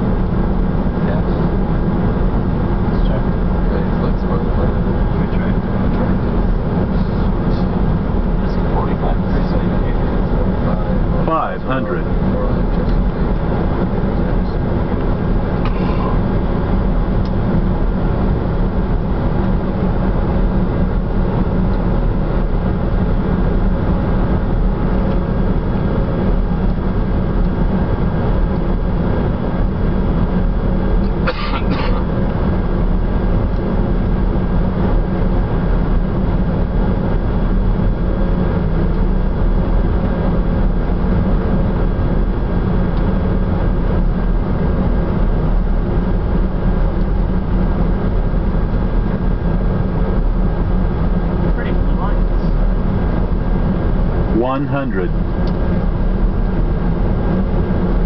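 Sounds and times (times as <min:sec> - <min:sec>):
jet cockpit noise rushing and humming: 0:00.0 - 0:58.0.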